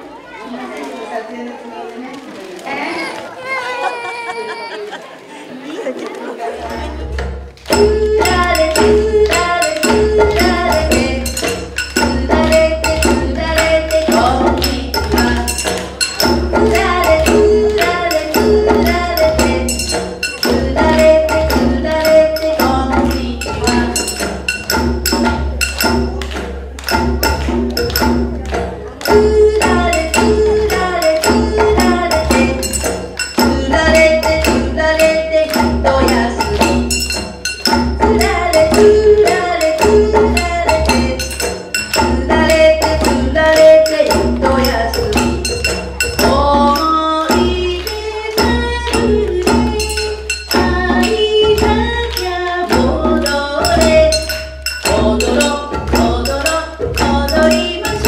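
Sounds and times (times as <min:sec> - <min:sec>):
folk dance song melody: 0:02.5 - 0:58.0
steady percussion beat: 0:06.6 - 0:58.0.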